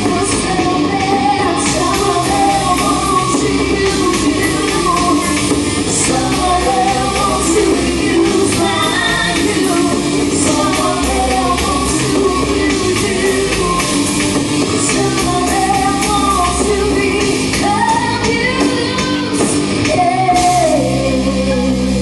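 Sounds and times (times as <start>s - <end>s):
drum kit: 0.0s - 22.0s
electric guitars: 0.0s - 22.0s
person singing lead vocal: 0.0s - 22.0s.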